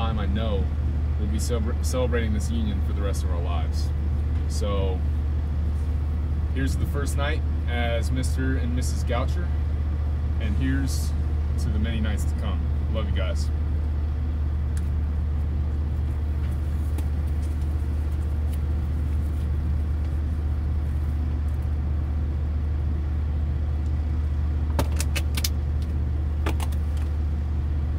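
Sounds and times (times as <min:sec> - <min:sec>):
engine low drone: 0:00.0 - 0:27.9.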